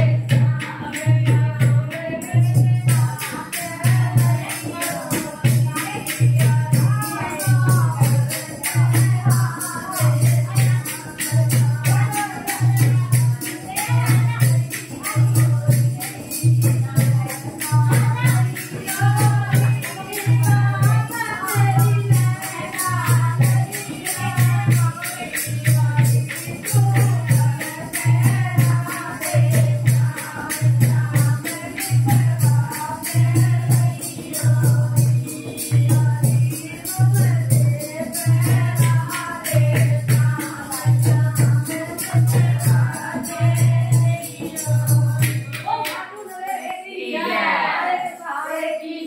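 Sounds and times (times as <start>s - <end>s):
jingling rattling percussion: 0.0s - 48.8s
women singing together: 0.0s - 49.0s.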